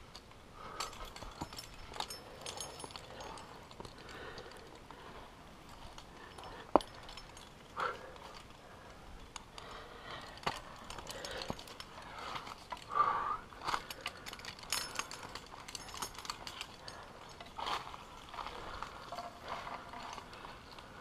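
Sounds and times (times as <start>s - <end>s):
metal climbing gear clinking: 0.0s - 21.0s.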